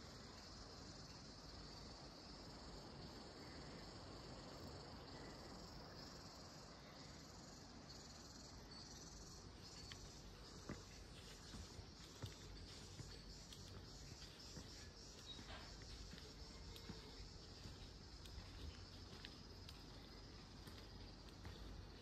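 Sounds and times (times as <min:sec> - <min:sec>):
insects chirring: 0:00.0 - 0:22.0
low outdoor hiss: 0:00.0 - 0:22.0.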